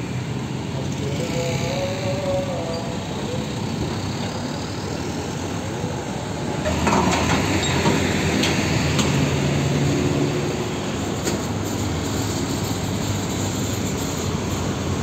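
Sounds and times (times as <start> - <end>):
tanker truck driving by: 0.0 - 15.0.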